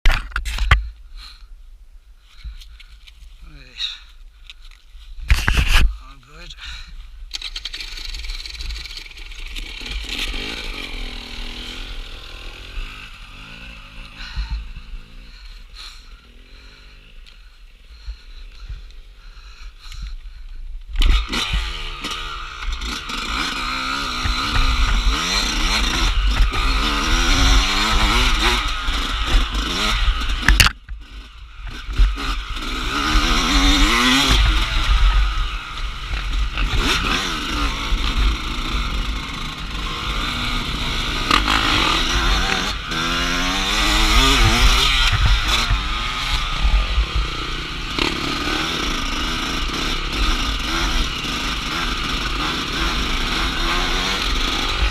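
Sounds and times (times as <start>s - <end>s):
motorcycle engine revving: 7.3s - 18.3s, 20.9s - 54.9s.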